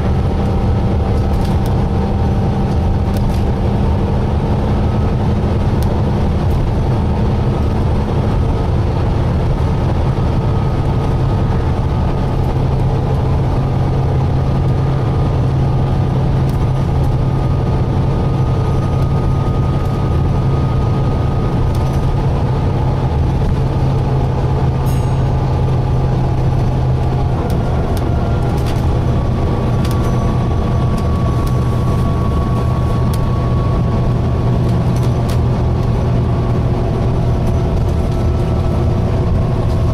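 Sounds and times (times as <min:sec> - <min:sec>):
bus diesel engine running: 0:00.0 - 0:39.9
thin steady whine: 0:00.0 - 0:39.9.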